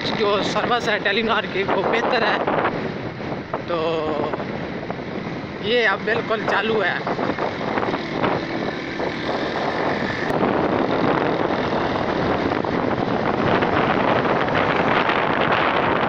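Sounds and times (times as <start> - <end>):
vehicle noise on road: 0.0 - 16.0
wind rushing: 0.0 - 16.0.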